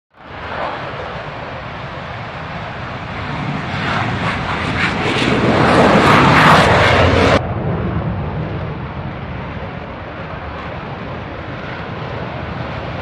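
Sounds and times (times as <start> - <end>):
fighter jet taking off: 0.2 - 13.0.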